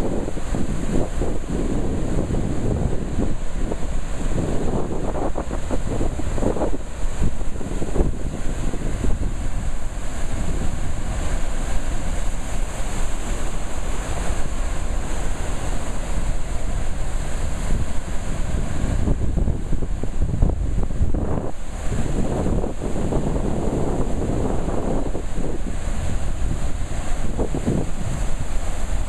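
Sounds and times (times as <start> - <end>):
churning white water: 0.0 - 29.0
water rushing from spillway: 0.0 - 29.0
wind buffeting microphone: 0.0 - 29.0.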